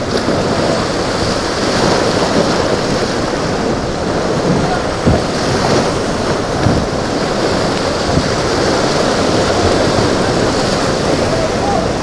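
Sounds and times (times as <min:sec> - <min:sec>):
breaking waves and surf: 0:00.0 - 0:12.0
wind buffeting microphone: 0:00.0 - 0:12.0.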